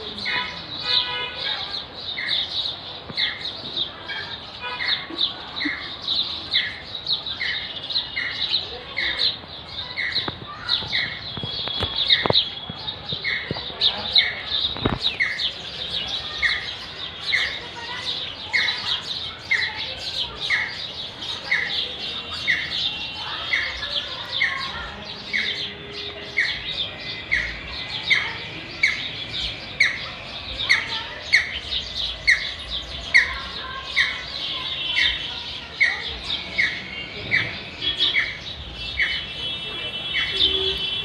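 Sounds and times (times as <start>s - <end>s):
birds twittering: 0.0s - 41.0s.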